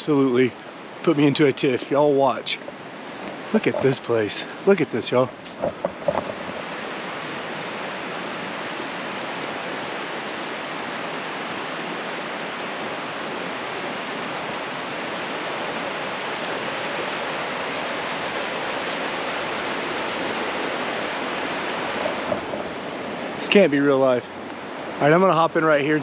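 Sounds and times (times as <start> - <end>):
fast-flowing stream rushing: 0.0 - 26.0.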